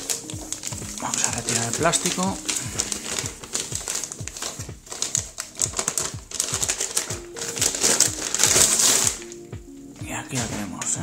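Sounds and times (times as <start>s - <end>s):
background music with beat: 0.0s - 11.0s
plastic bag crinkling: 0.0s - 11.0s.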